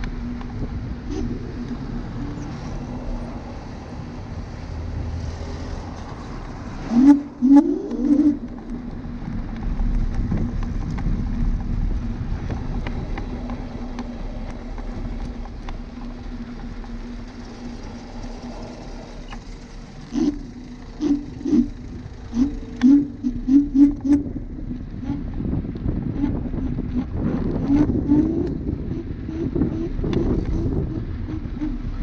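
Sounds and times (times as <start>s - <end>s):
electric scooter motor hum: 0.0s - 32.0s
tyre and wind noise: 0.0s - 32.0s.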